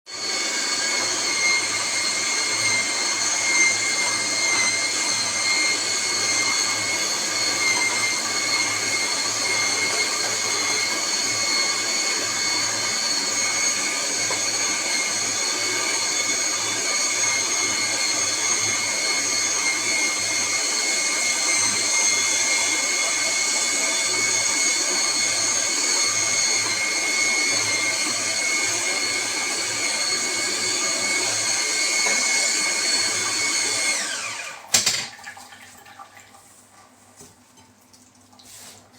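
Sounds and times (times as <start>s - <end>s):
electric juicer motor whirring: 0.1s - 35.4s.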